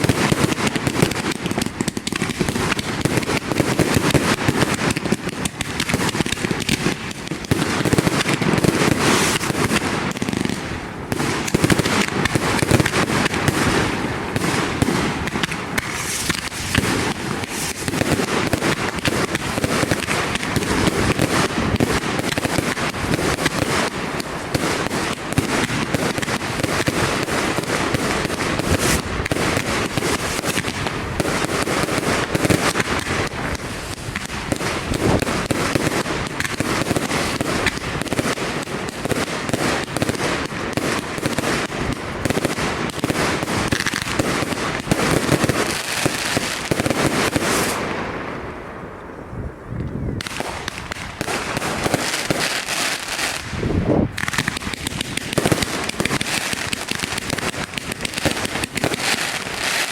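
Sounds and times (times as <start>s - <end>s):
fireworks banging and crackling: 0.0s - 59.9s.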